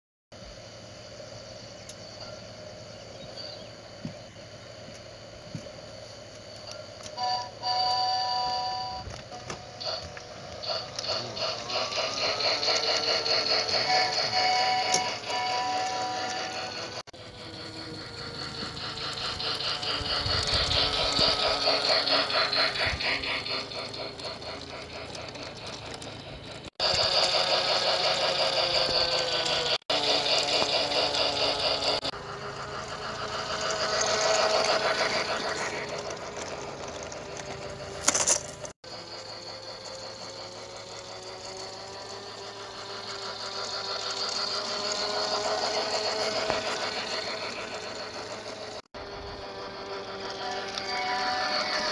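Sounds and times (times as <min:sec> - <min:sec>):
toy train motor whining: 0:00.4 - 0:51.9
fast clicking of gears and wheels: 0:01.7 - 0:51.9.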